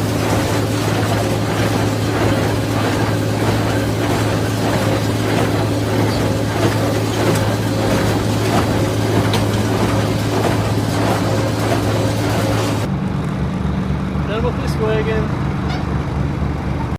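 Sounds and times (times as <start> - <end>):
tractor and baler engine drone: 0.0 - 16.9.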